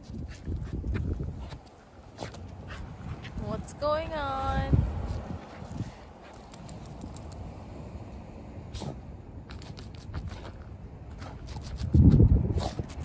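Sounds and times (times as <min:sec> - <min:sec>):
dog paws digging in dirt: 0:00.0 - 0:07.6, 0:08.7 - 0:13.0.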